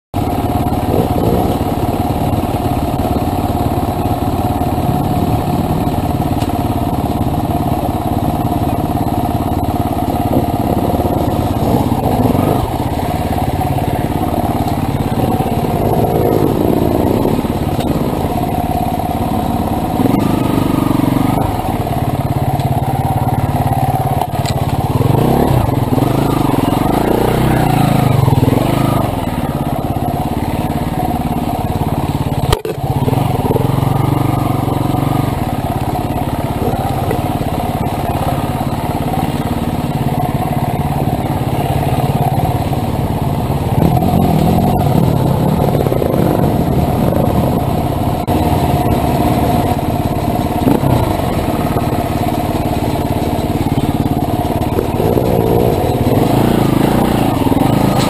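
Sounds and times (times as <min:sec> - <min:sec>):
motorcycle engine revving: 0:00.1 - 0:58.0.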